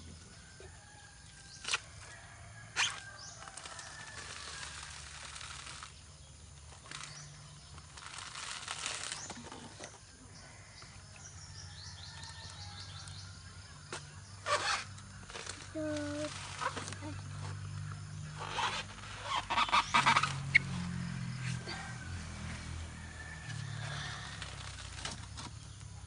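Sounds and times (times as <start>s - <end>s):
coconut husks rustling and scraping: 1.4s - 10.9s, 13.8s - 26.0s.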